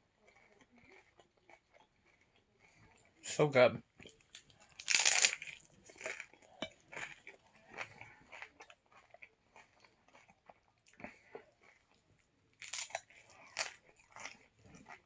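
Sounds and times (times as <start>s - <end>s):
chewing crunchy taco shells: 0.0s - 15.0s.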